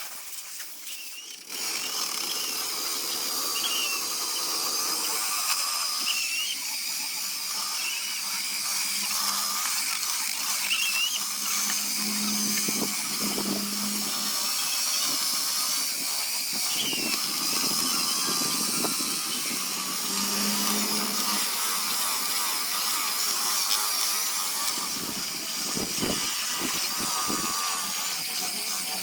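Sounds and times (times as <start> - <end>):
power tool whining on wood: 0.0 - 29.0.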